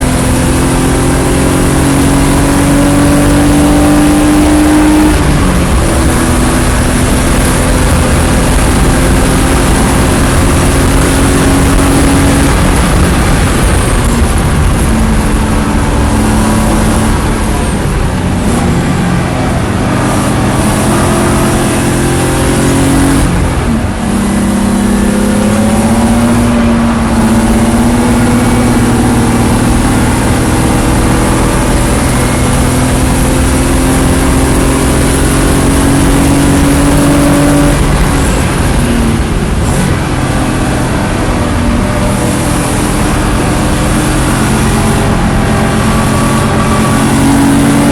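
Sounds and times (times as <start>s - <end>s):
race car engine revving: 0.0s - 47.9s
wind and road noise: 0.0s - 47.9s.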